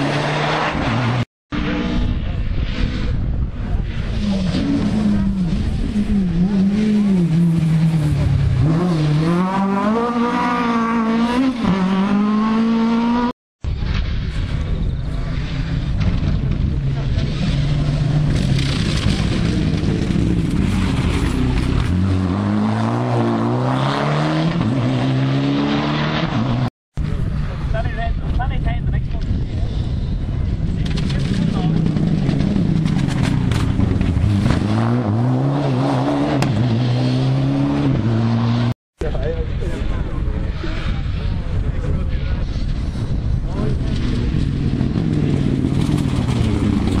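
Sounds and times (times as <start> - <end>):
rally car engines revving: 0.0 - 47.0.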